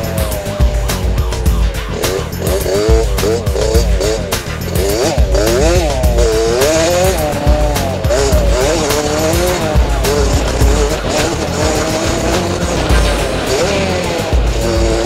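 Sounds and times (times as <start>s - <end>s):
two-stroke motocross engine revving: 0.0s - 15.0s.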